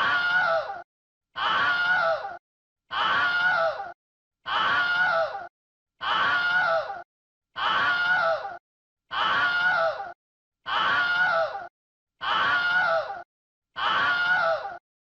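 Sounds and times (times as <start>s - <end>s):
high-pitched human scream: 0.0s - 0.8s, 1.4s - 7.0s, 7.6s - 13.2s, 13.8s - 14.8s.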